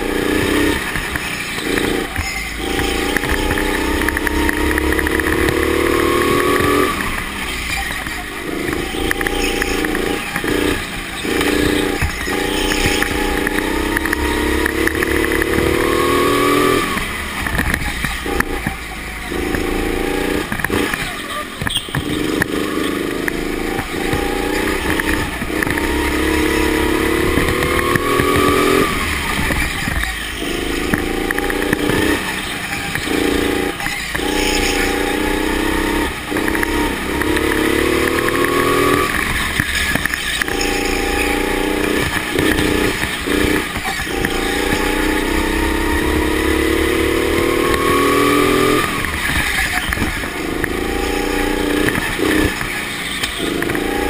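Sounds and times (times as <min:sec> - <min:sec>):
go-kart engine accelerating: 0:00.0 - 0:54.0.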